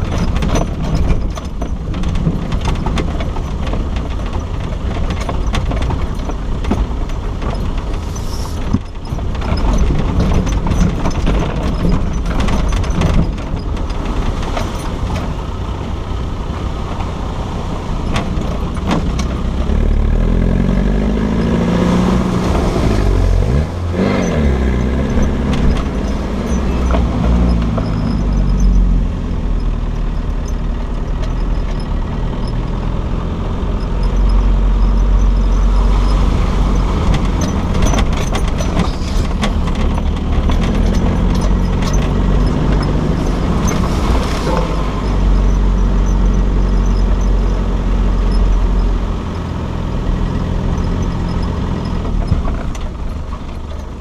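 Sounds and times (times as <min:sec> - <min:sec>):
off-road vehicle engine under load: 0:00.0 - 0:54.0
vehicle wheels and body clattering: 0:00.0 - 0:54.0.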